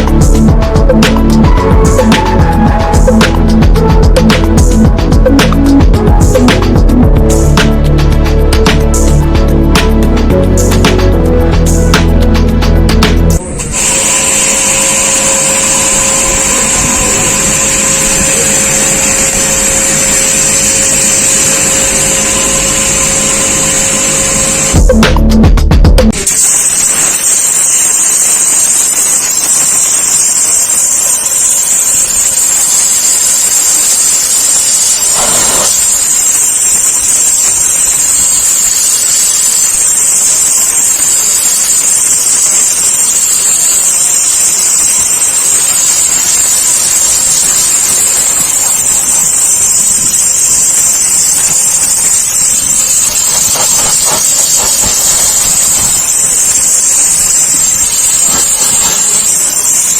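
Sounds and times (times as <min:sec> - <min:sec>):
pressure washer jet hissing: 0:00.0 - 0:24.9, 0:26.1 - 0:59.9.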